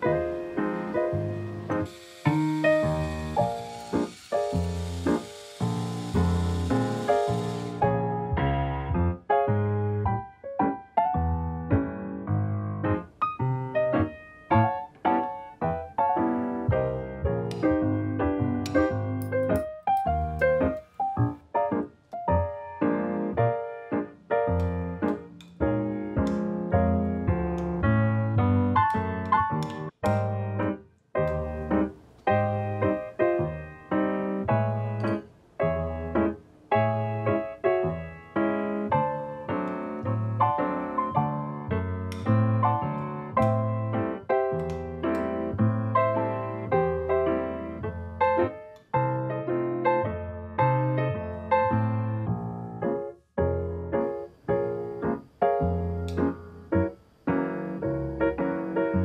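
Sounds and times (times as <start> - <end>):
piano chords: 0.0 - 59.0.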